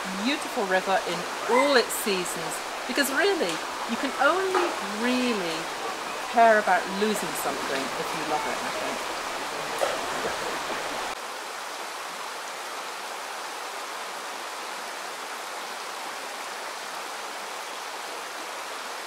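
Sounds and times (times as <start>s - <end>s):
river rushing over stones: 0.0s - 19.0s.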